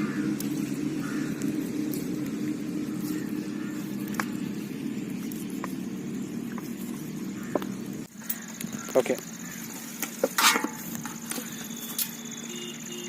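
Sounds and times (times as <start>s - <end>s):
motor running steadily: 0.0s - 13.0s.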